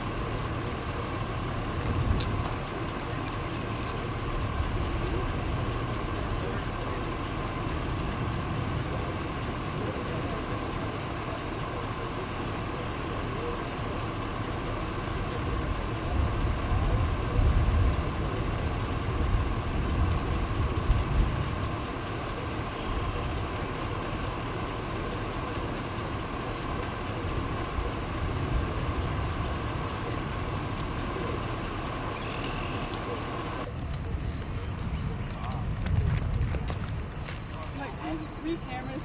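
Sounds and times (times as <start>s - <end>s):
wind buffeting microphone: 0.0s - 12.6s, 14.6s - 32.2s, 32.8s - 39.0s.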